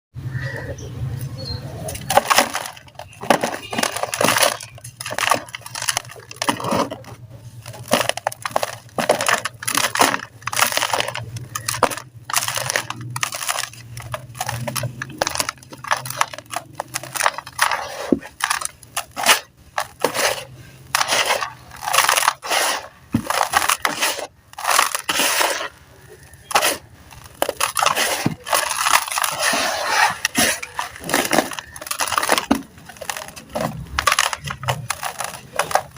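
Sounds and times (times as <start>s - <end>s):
crumbling slabs crunching: 1.8s - 35.9s.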